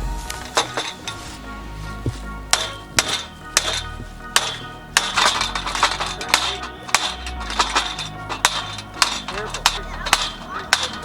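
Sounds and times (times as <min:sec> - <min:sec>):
background music with clicking beat: 0:00.0 - 0:11.0.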